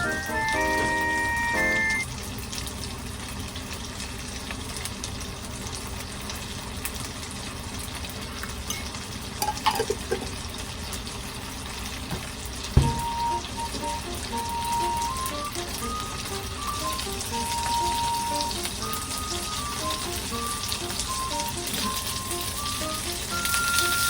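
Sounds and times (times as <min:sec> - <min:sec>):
oil sizzling in a pan: 0:00.0 - 0:24.0.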